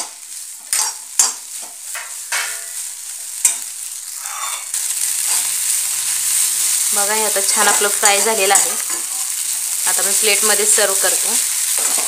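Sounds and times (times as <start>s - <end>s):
spatula scraping a wok: 0.0s - 9.8s, 11.2s - 12.0s
oil sizzling: 0.0s - 12.0s.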